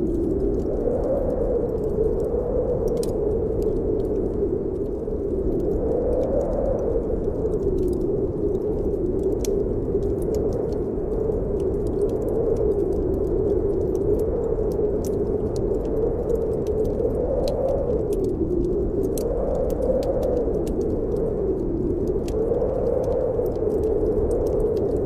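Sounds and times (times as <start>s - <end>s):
wind howling: 0.0s - 25.0s
wood fire crackling: 0.0s - 25.0s.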